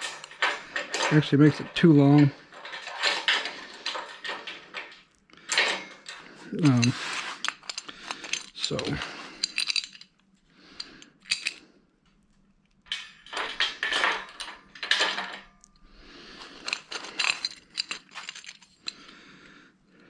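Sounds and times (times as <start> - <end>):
metal brackets clinking: 0.0 - 10.2, 12.8 - 19.1.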